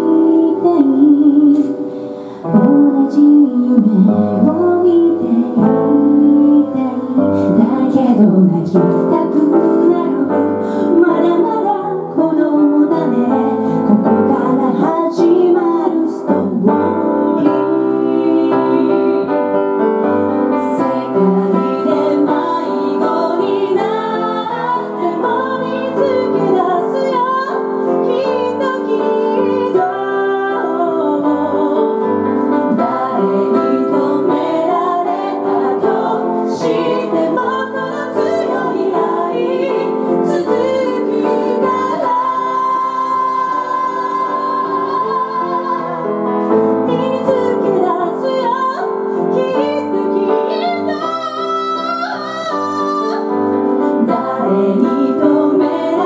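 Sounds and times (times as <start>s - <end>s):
grand piano: 0.0s - 56.0s
woman singing into a microphone: 0.0s - 56.0s.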